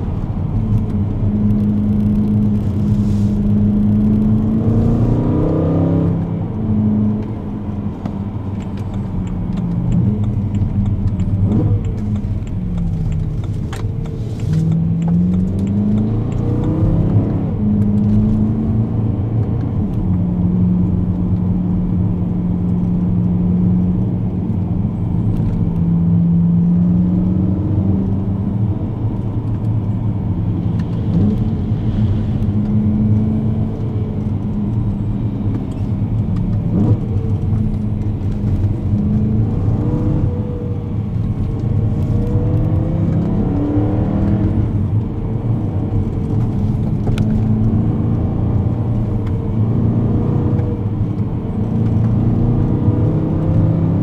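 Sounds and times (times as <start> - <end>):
car engine revving from inside cabin: 0.4 - 8.4, 9.2 - 54.0.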